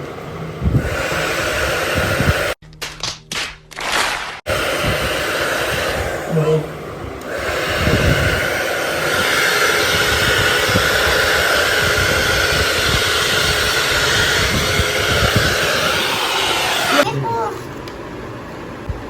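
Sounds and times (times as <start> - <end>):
hair dryer running: 0.0 - 2.6, 4.4 - 17.1.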